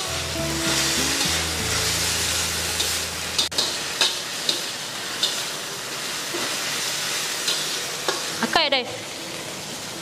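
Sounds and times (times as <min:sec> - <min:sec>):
ferns sizzling in a wok: 0:00.0 - 0:10.0
metal spatula scraping a wok: 0:00.1 - 0:08.5.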